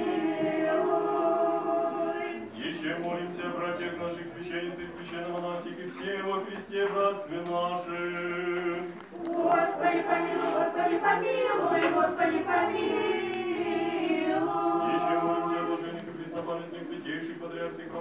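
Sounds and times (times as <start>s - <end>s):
choir chanting a cappella: 0.0s - 18.0s.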